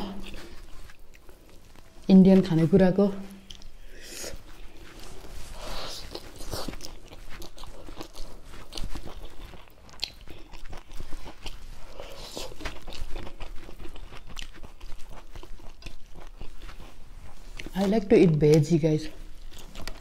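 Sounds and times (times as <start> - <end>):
person chewing food: 0.0 - 2.7, 3.3 - 20.0.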